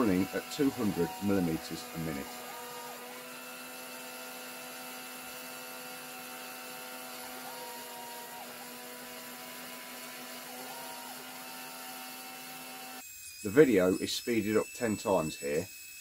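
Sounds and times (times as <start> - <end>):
spindle motor whine: 0.0 - 16.0
stepper motors running: 0.0 - 16.0.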